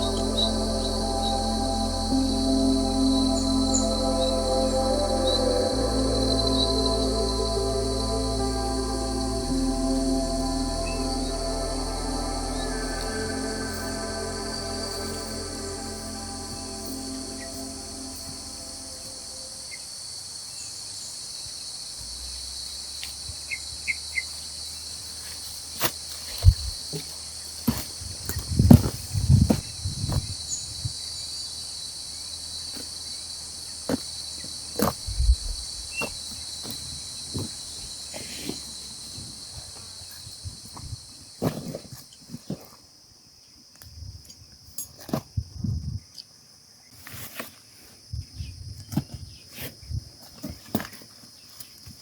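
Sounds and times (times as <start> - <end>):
high-pitched insect chorus: 0.0 - 42.7.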